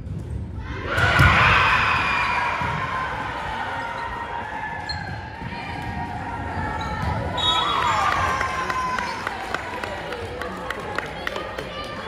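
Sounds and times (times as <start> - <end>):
crowd cheering and shouting: 0.6 - 12.0.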